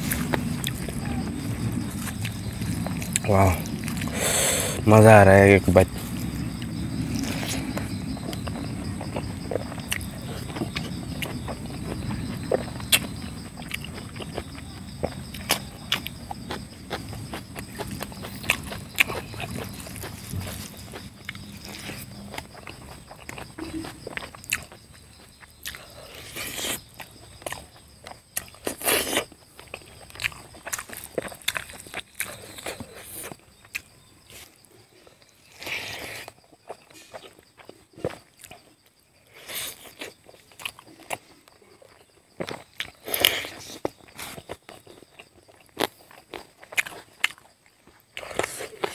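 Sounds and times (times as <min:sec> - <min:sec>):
chewing and lip-smacking: 0:00.0 - 0:04.2, 0:06.2 - 0:34.7, 0:35.4 - 0:48.9
high insect drone: 0:00.0 - 0:48.9.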